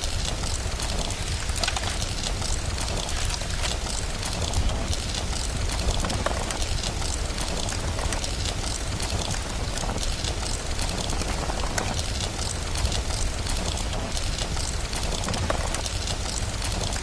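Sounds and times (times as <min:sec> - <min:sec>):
rain hiss: 0:00.0 - 0:17.0
wood fire crackling: 0:00.0 - 0:17.0.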